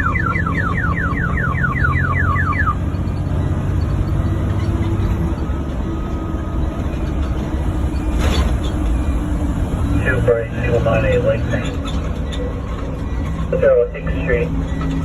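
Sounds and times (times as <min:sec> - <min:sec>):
engine low rumble: 0:00.0 - 0:15.0.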